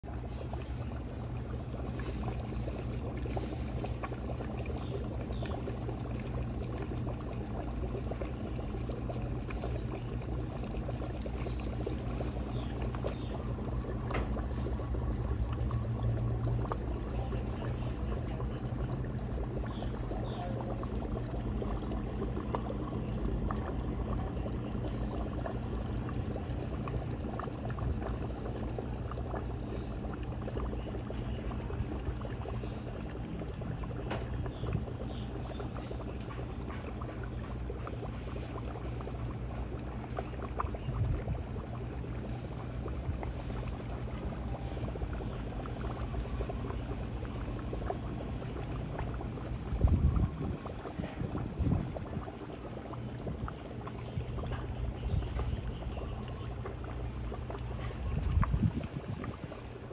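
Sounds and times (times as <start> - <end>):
low hum: 0.0 - 59.9
water bubbling and splashing: 0.0 - 59.9.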